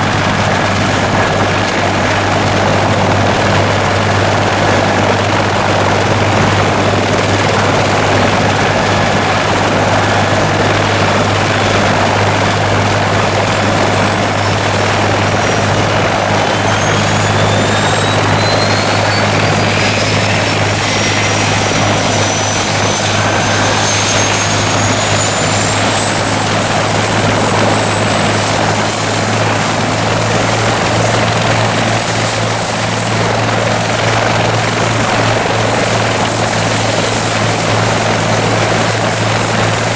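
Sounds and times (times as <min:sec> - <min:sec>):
helicopter engine roar: 0:00.0 - 0:39.9
high turbine whine: 0:00.0 - 0:39.9.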